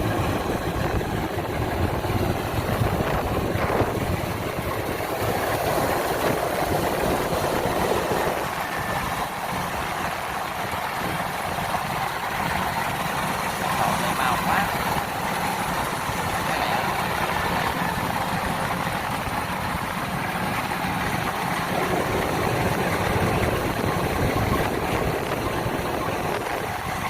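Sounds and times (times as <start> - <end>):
combine harvester droning: 0.0 - 27.0.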